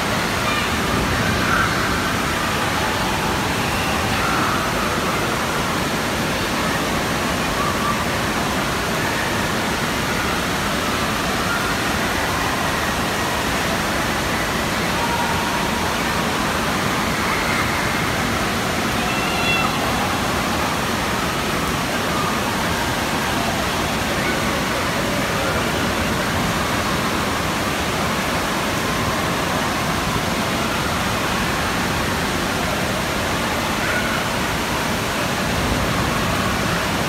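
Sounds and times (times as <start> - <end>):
faint voices: 0.0 - 37.0
running water rushing: 0.0 - 37.0.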